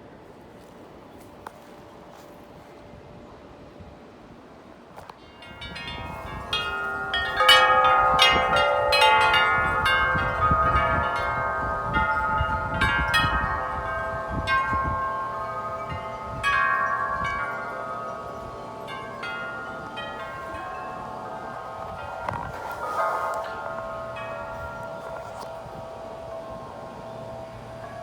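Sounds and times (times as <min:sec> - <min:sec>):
low wind rumble: 0:00.0 - 0:28.0
metal tube wind chimes ringing: 0:05.0 - 0:28.0.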